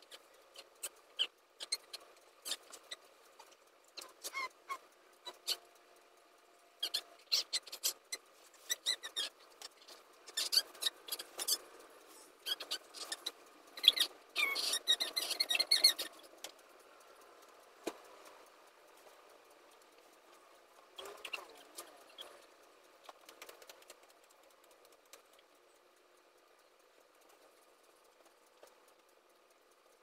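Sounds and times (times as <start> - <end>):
small clicks and squeaks: 0.0 - 30.0.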